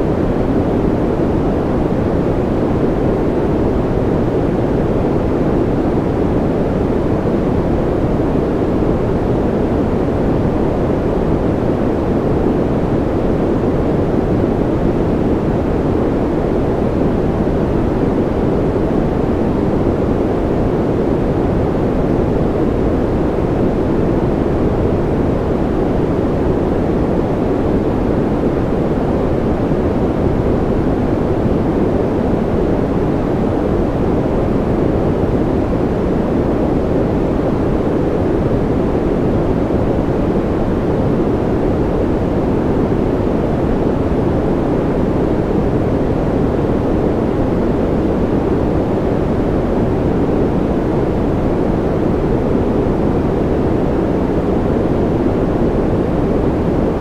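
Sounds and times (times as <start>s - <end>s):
deep white noise hiss: 0.0s - 57.0s.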